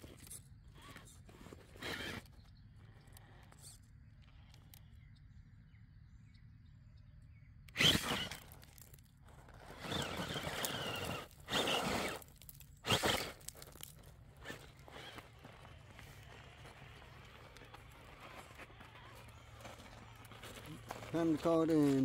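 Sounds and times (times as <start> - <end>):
tyres crunching on rock and gravel: 0.0 - 3.6, 7.8 - 22.0
faint electric motor whine: 0.0 - 6.4, 7.6 - 22.0.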